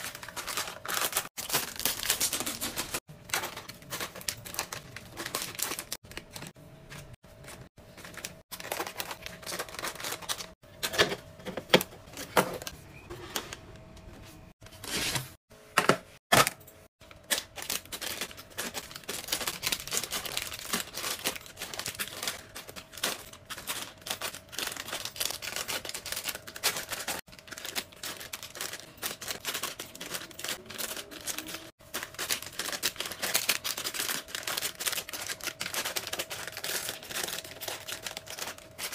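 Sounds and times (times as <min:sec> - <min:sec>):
plastic snack packs crinkling: 0:00.0 - 0:10.6, 0:17.1 - 0:38.9.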